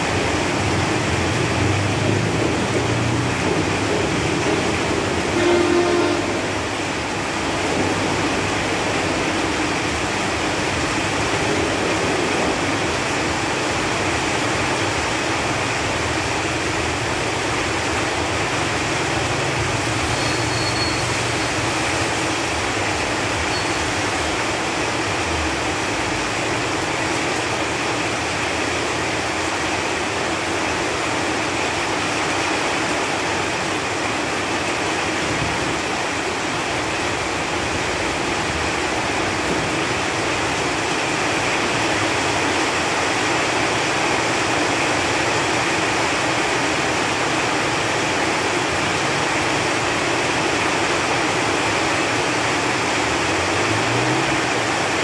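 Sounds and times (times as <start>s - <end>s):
rain falling on leaves: 0.0s - 55.0s.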